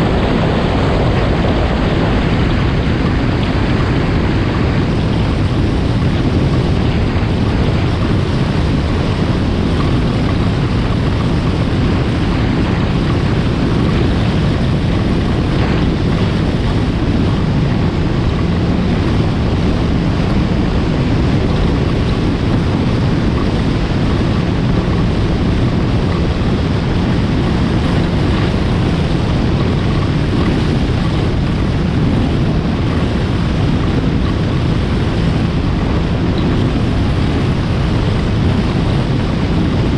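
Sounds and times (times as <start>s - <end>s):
hull running over water: 0.0s - 39.9s
watercraft engine running: 0.0s - 39.9s
wind on microphone: 0.0s - 39.9s.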